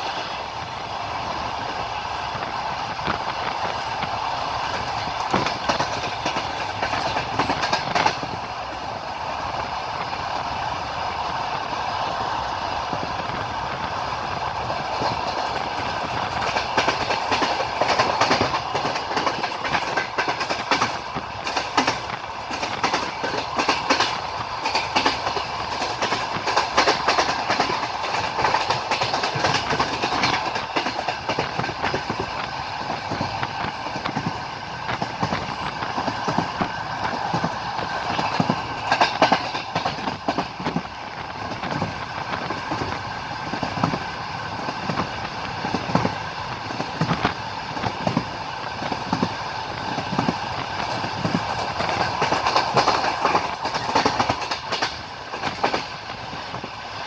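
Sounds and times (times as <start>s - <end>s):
train rumbling rattle: 0.0s - 57.0s
train wheels clicking over rail joints: 0.0s - 57.0s.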